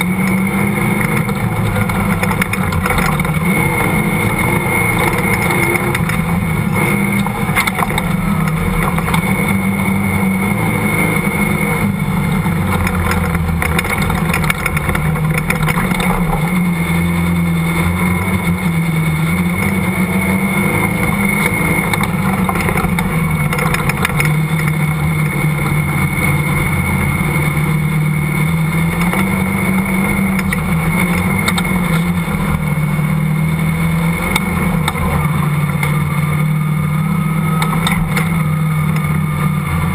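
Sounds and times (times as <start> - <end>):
dune buggy engine revving: 0.0 - 39.9.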